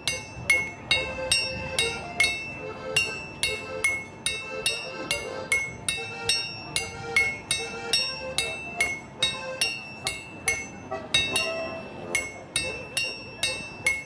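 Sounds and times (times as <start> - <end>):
hammers clanging on anvils: 0.0 - 14.0.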